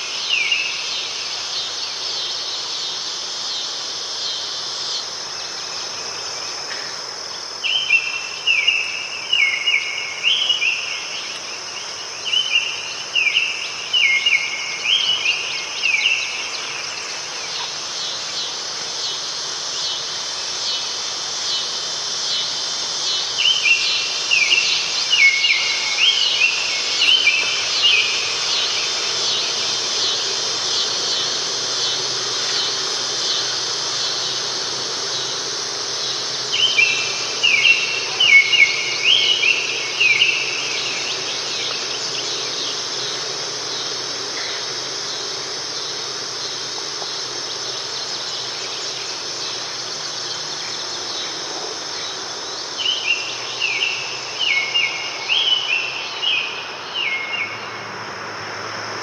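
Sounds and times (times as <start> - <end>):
insects buzzing and trilling: 0.0 - 59.0.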